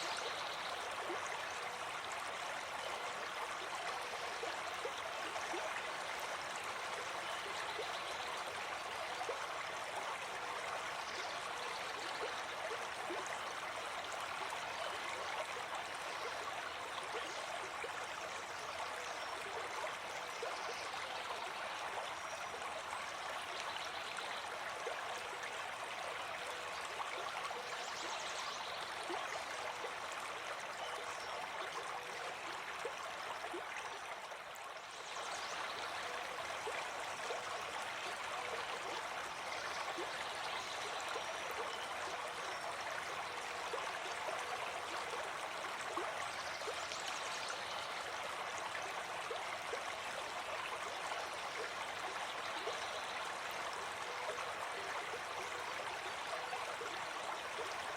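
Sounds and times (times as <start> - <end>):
running water gurgling: 0.0 - 57.9.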